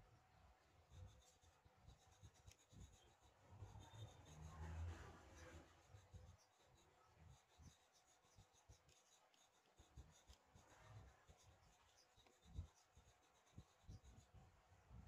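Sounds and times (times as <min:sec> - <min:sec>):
pencil scratching on paper: 0:00.7 - 0:14.5.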